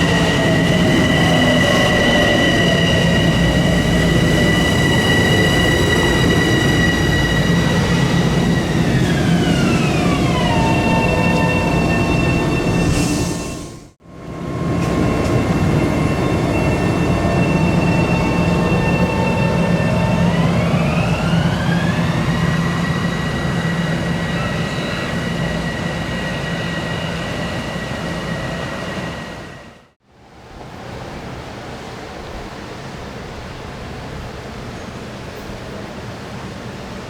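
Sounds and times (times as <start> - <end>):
electric train whine: 0.0 - 30.4
train rumbling: 0.0 - 37.0.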